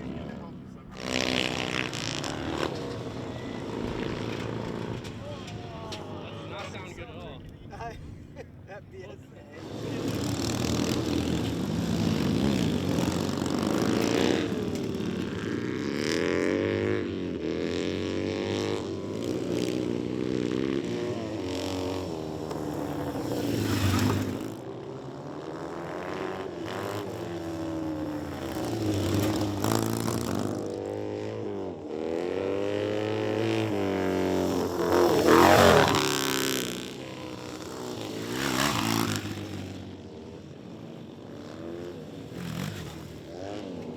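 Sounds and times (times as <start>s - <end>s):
motorcycle passing by: 0.0s - 43.9s
racing motorcycles revving: 0.0s - 43.9s.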